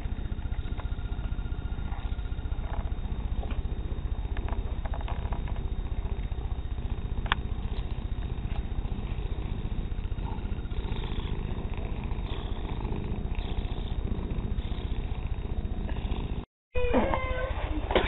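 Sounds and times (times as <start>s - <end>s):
cat purring: 0.0s - 16.5s.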